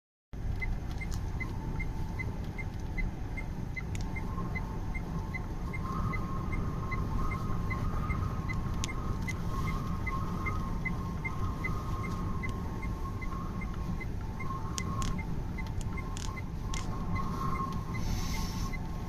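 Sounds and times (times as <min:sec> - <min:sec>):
faint steady whine: 0:00.4 - 0:19.0
regular ticking: 0:00.4 - 0:19.0
vehicle engine and road noise: 0:00.4 - 0:19.0.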